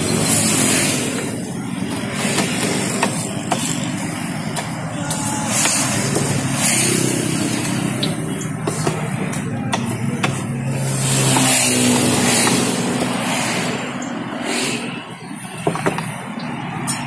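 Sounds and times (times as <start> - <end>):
street traffic: 0.0 - 17.0
vehicle engine hum: 0.0 - 17.0.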